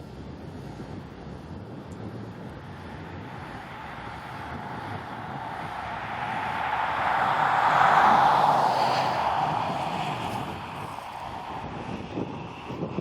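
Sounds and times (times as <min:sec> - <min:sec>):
vehicle passing by: 0:02.4 - 0:13.0.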